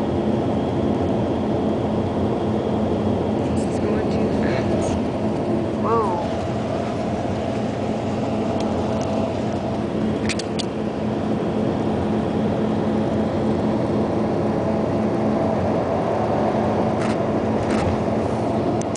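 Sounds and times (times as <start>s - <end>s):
vehicle interior rumble: 0.0s - 18.9s.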